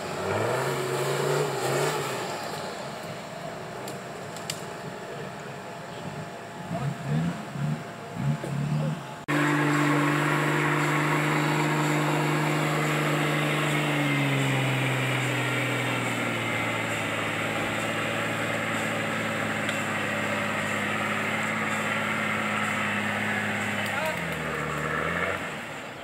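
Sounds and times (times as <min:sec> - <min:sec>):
off-road vehicle engine revving: 0:00.0 - 0:05.2, 0:06.1 - 0:26.0.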